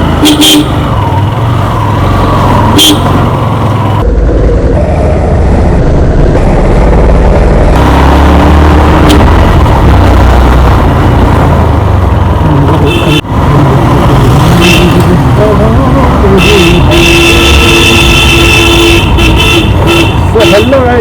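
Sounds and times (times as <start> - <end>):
road vehicle rumble: 0.0 - 21.0.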